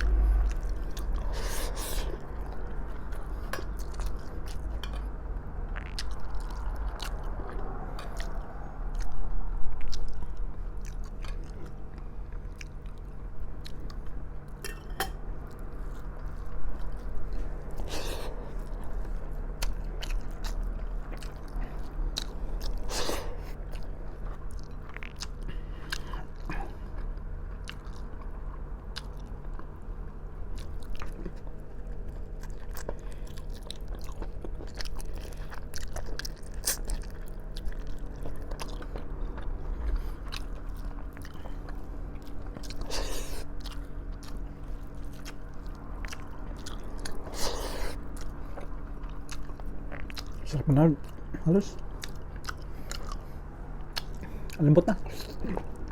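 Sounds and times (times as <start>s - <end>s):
wet chewing and lip-smacking: 0.0s - 14.6s, 15.4s - 55.9s
low hum: 0.0s - 55.9s.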